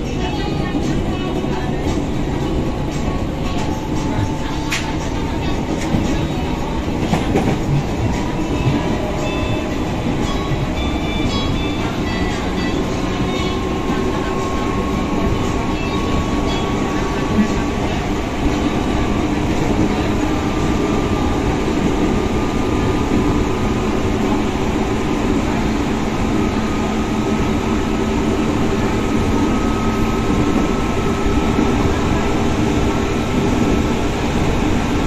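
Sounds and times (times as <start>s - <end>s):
freight train passing alongside: 0.0s - 35.0s
train wheels on rail: 0.0s - 35.0s.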